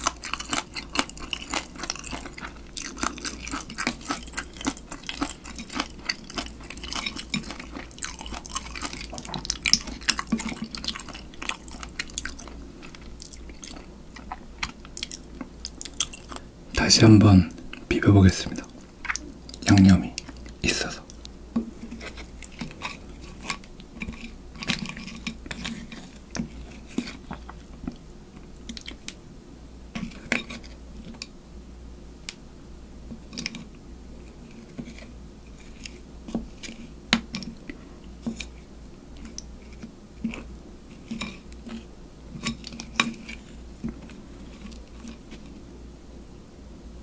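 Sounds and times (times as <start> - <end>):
chewing: 0.0 - 16.5, 17.5 - 29.2, 29.9 - 31.3, 33.2 - 45.6.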